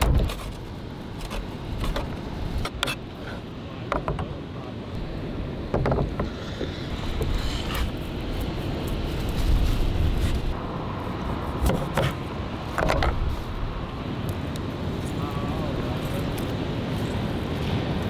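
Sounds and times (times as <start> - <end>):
road traffic rumble: 0.0 - 18.0
wind: 0.0 - 18.0.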